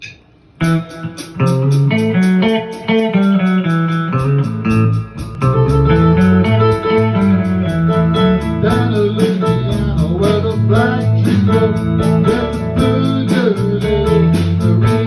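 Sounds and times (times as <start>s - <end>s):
blues-country guitar and bass: 0.6s - 15.0s.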